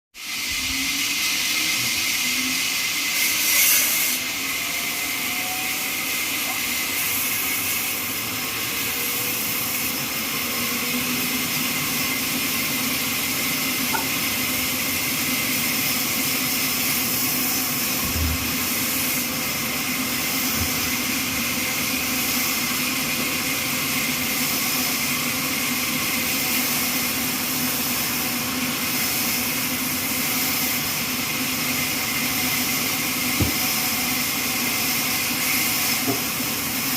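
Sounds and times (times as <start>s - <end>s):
band sawmill running: 0.2s - 36.9s.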